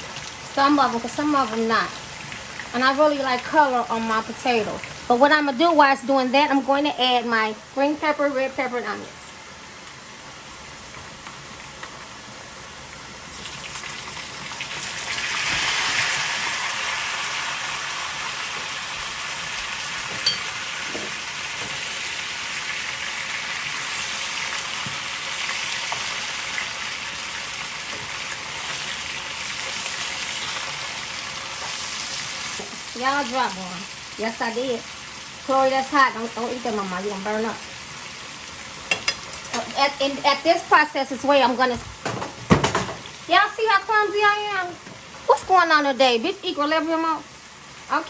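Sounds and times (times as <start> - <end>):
potatoes sizzling in oil: 0.0 - 48.0.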